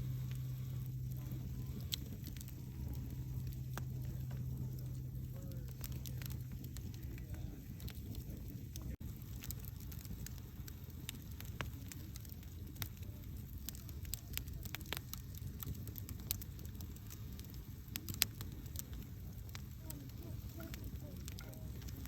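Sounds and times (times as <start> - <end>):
burning wood crackling and popping: 0.0 - 22.0
low rumble of flames: 0.0 - 22.0.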